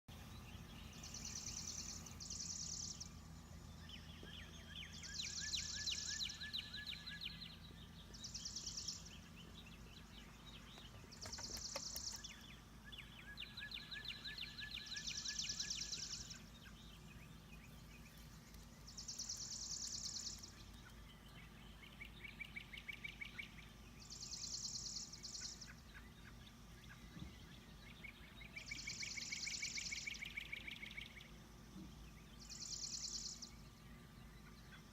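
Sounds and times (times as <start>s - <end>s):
songbirds trilling: 0.1s - 34.9s
steady low hum: 0.1s - 34.9s.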